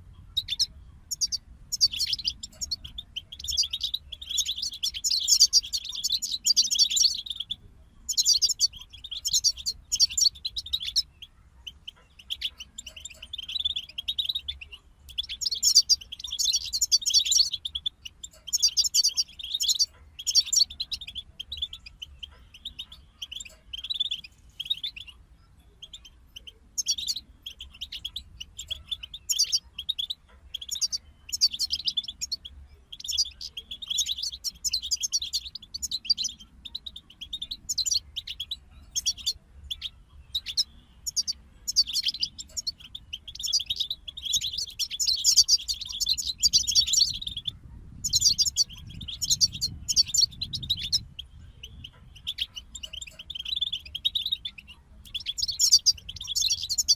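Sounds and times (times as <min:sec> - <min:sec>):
faint low hum: 0:00.0 - 0:56.9
finch twittering song: 0:00.0 - 0:56.9.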